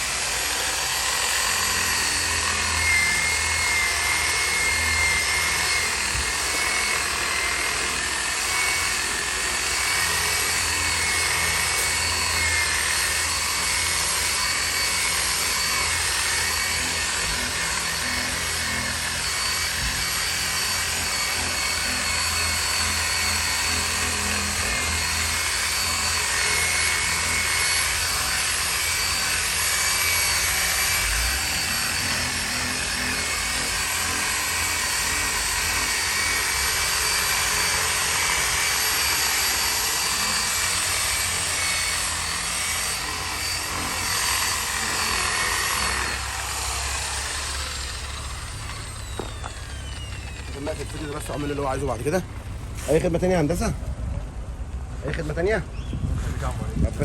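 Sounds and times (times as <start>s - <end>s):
power tool whirring: 0.0s - 54.0s.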